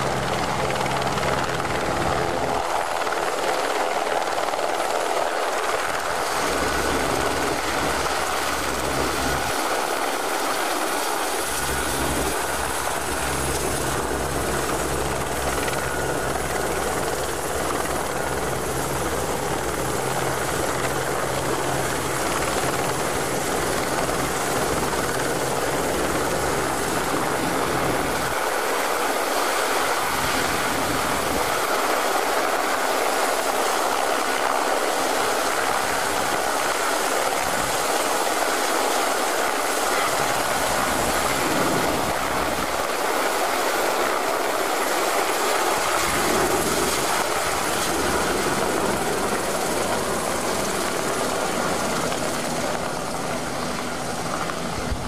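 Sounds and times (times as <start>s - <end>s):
helicopter rotor and turbine noise: 0.0s - 55.0s.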